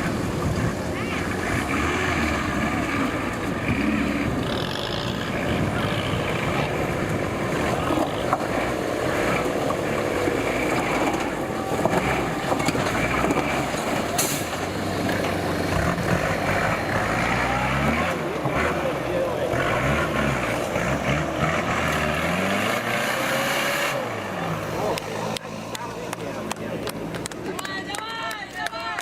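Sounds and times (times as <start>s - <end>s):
outdoor noise: 0.0s - 29.0s
vehicle engine running: 0.0s - 29.0s.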